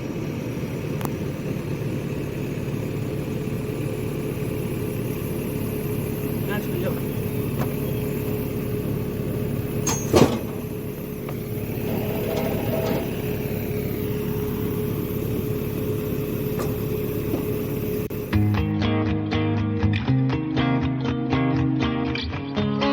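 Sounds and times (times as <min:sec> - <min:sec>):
excavator diesel engine running: 0:00.0 - 0:18.7
constant whine: 0:00.0 - 0:18.9.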